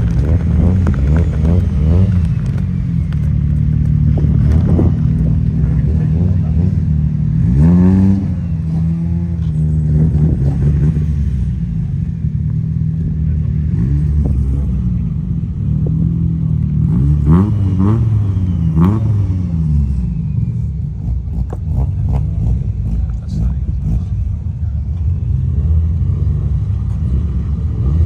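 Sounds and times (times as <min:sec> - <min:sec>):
car engines revving: 0:00.0 - 0:28.0
low engine drone: 0:00.0 - 0:28.0.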